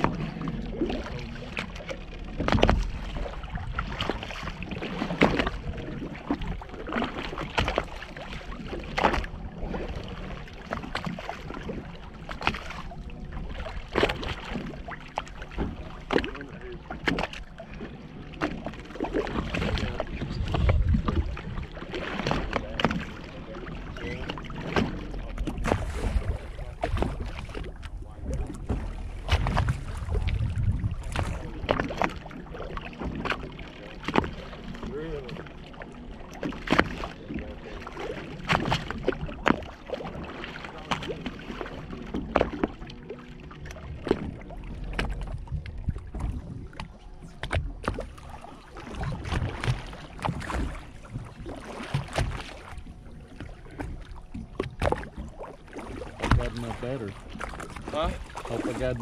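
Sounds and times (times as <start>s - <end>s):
water sloshing against boat hull: 0.0s - 59.0s
water splashes: 0.0s - 59.0s.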